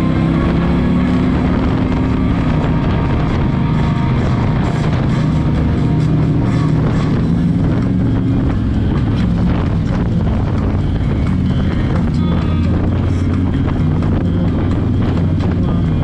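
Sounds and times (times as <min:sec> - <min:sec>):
motorcycle engine running: 0:00.0 - 0:16.0
other motorcycles riding by: 0:00.0 - 0:16.0
wind noise on microphone: 0:00.0 - 0:16.0.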